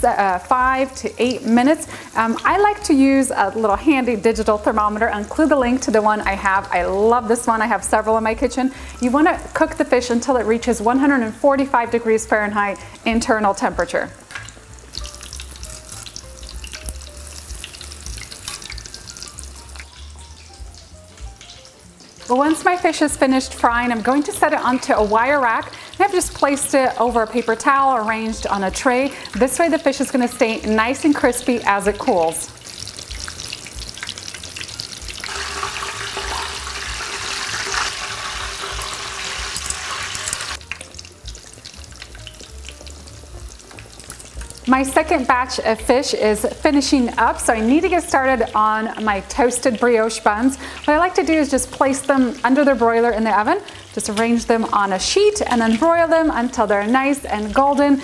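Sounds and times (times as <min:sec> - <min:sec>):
fish deep-frying in oil: 0:00.0 - 0:58.0.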